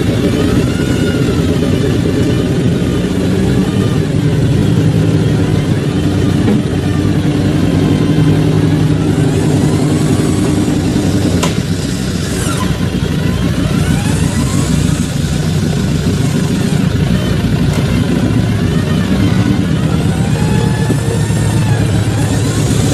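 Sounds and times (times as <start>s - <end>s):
off-road vehicle engine running: 0.0s - 22.9s
whines rising and falling in pitch: 0.0s - 22.9s.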